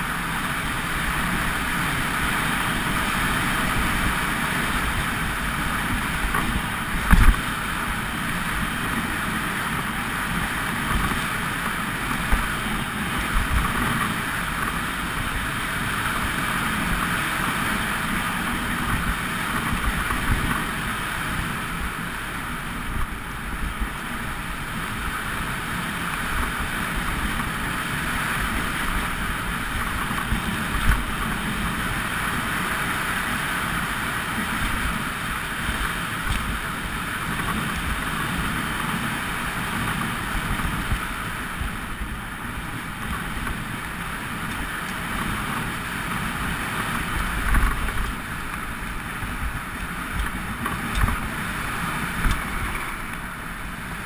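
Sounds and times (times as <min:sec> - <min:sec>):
bike rattling over bumps: 0:00.0 - 0:54.0
wind and tyre noise: 0:00.0 - 0:54.0.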